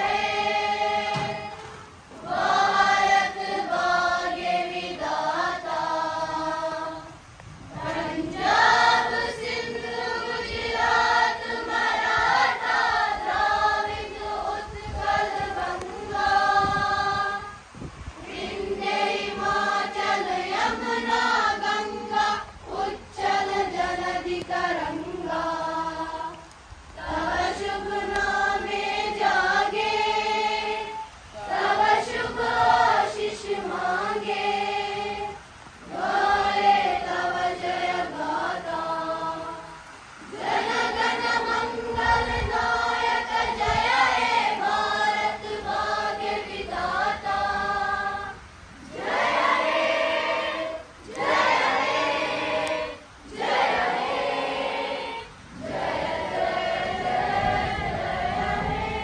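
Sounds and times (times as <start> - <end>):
children singing in unison: 0.0 - 59.0.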